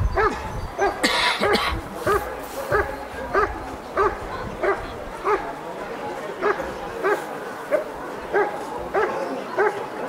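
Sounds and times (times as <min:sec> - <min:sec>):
dog barking: 0:00.1 - 0:05.4, 0:06.4 - 0:09.8.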